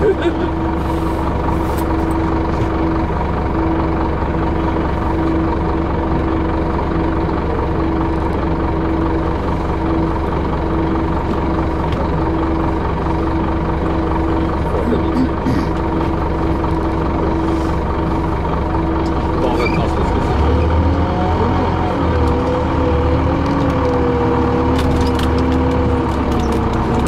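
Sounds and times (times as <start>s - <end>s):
bus engine idling: 0.0s - 27.0s.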